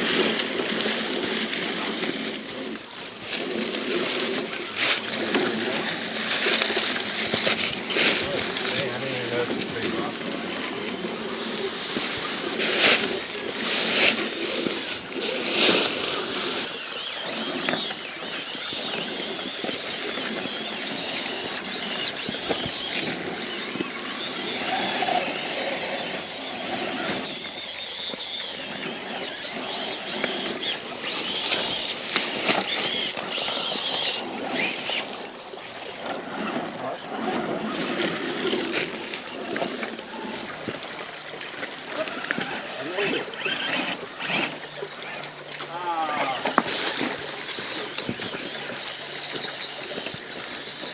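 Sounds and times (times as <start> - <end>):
electric motors whining: 0.0 - 50.9.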